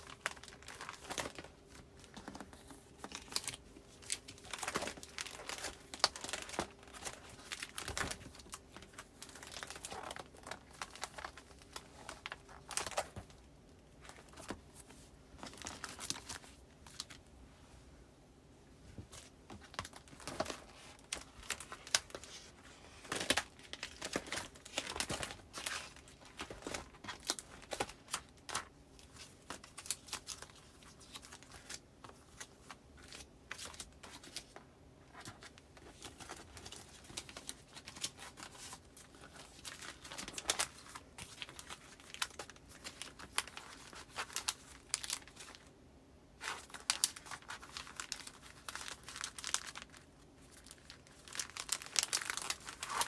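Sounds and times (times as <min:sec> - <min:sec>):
paper and plastic sleeves rustling: 0:00.0 - 0:18.0, 0:18.6 - 0:45.8, 0:46.4 - 0:53.0.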